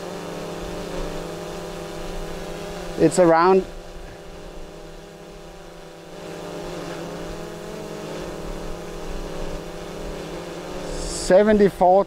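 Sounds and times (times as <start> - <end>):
drone propeller hum: 0.0 - 12.0.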